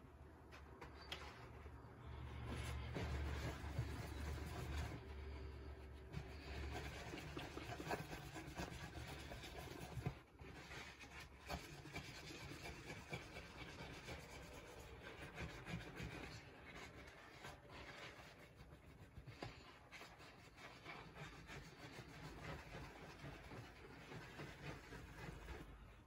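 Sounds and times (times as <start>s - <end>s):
paper towel rubbing metal: 1.4s - 26.0s.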